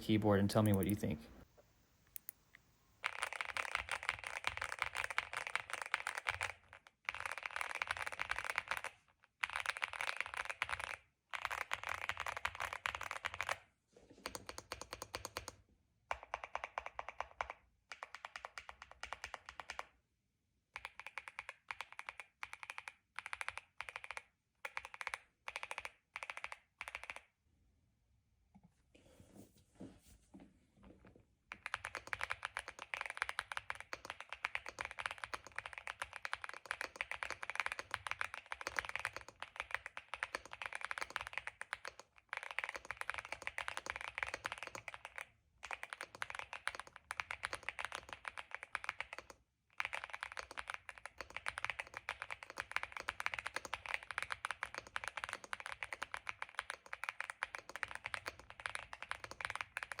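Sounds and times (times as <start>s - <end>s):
fast typing on mechanical keyboard: 0.5s - 1.1s, 3.0s - 13.6s, 14.2s - 20.0s, 20.8s - 27.3s, 31.5s - 60.0s.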